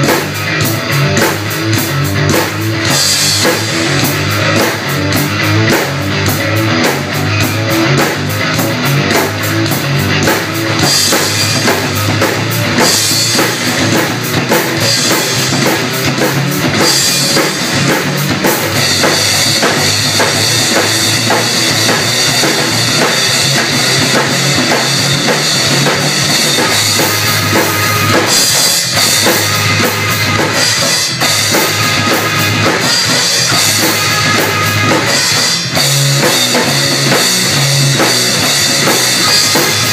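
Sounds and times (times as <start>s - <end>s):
drum kit rock beat: 0.0s - 39.9s
rock backing track: 0.0s - 39.9s.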